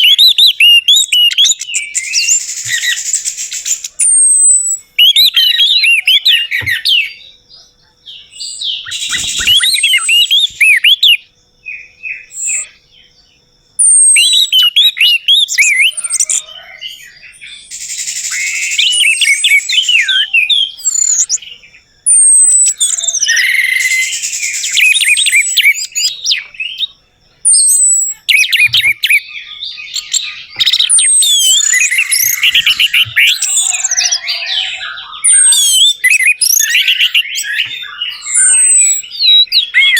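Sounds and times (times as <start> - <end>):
thrush song whistles and trills: 0.0 - 7.2, 8.4 - 11.2, 13.8 - 21.4, 22.1 - 26.9, 27.5 - 39.9.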